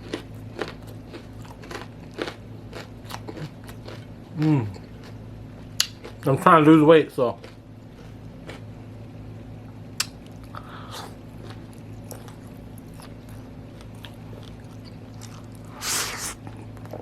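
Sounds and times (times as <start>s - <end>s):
person chewing food: 0.0s - 5.2s, 5.8s - 6.3s, 7.4s - 8.8s, 10.0s - 17.0s
steady low hum: 0.0s - 17.0s.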